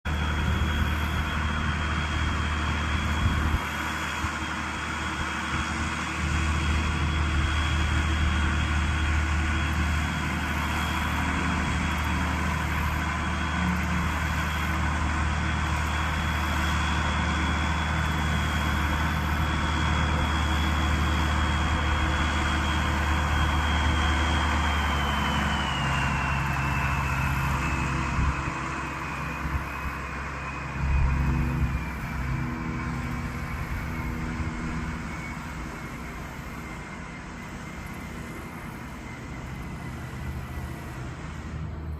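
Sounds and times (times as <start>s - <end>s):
diesel tractor engine running: 0.0s - 41.9s
thin high whine: 0.1s - 41.9s.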